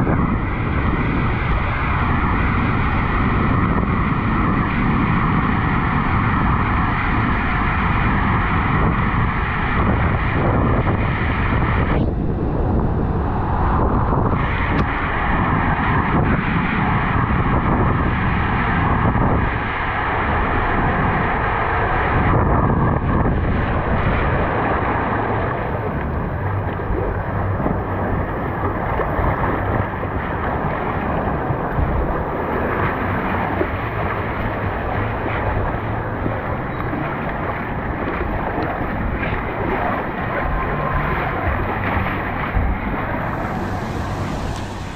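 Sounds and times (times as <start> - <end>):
water rushing and splashing: 0.0 - 44.9
wind noise on microphone: 0.0 - 44.9.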